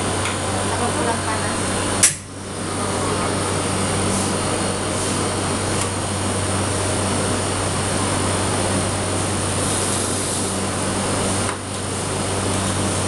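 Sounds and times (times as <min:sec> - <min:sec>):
cotton candy machine humming: 0:00.0 - 0:13.0.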